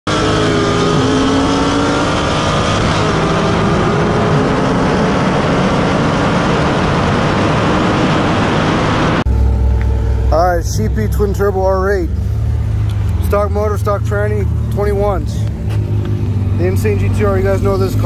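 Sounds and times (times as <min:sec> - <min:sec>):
car engine drone: 0:00.0 - 0:18.0
wind and road rush: 0:00.1 - 0:18.0.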